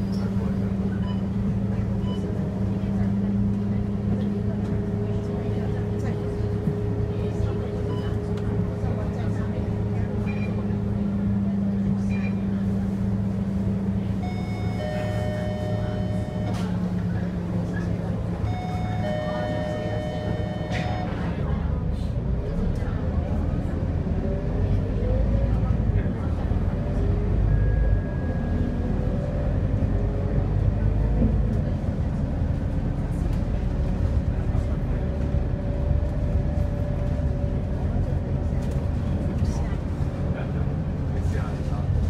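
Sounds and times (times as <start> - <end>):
bus diesel engine idling: 0.0 - 42.0
road noise: 0.0 - 42.0.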